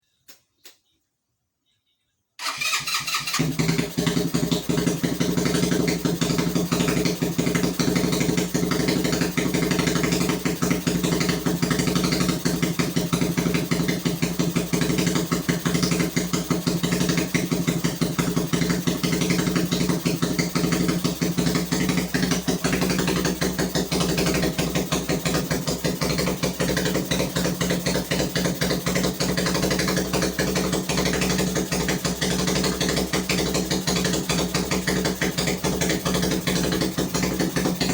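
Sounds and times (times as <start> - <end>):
motorcycle engine idling: 2.4 - 37.9.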